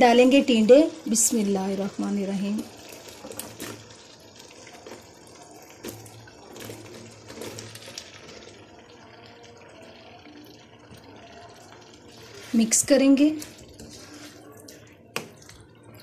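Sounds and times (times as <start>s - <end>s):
masala sizzling: 0.0s - 16.0s.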